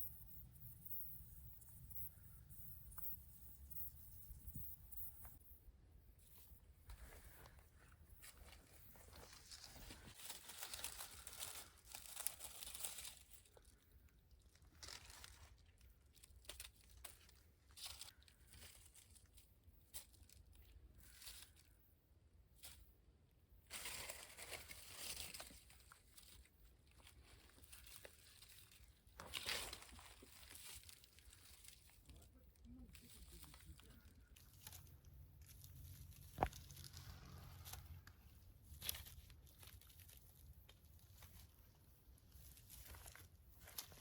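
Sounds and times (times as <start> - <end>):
crinkling and crunching handling: 6.4 - 21.8, 23.7 - 44.0.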